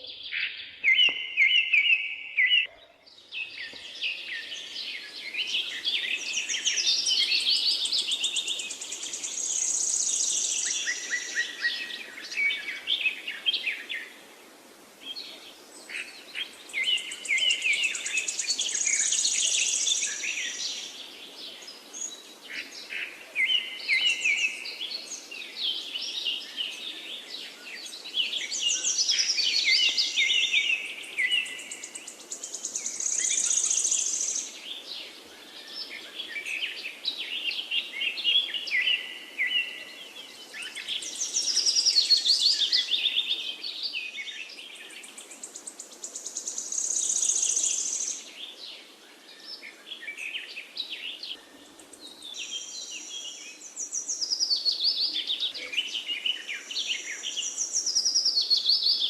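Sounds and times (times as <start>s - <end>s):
songbirds chirping and singing: 0.0s - 59.0s
faint steady hiss: 3.0s - 59.0s.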